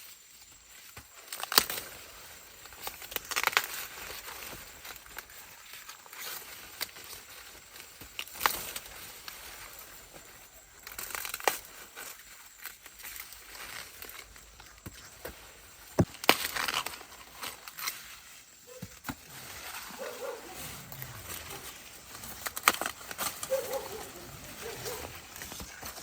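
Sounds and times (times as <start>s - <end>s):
corn leaves rustling: 0.0s - 26.0s
corn ears snapping off: 0.8s - 26.0s.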